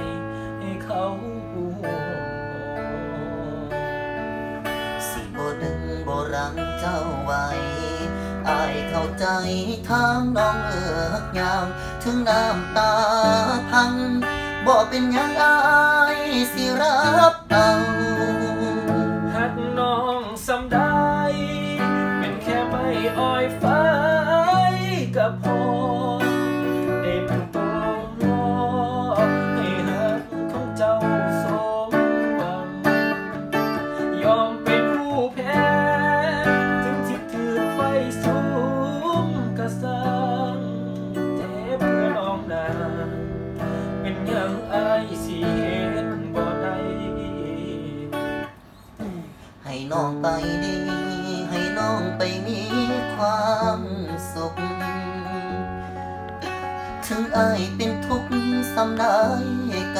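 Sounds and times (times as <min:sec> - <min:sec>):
electric guitar: 0:00.0 - 0:59.9
man singing: 0:00.0 - 0:59.9.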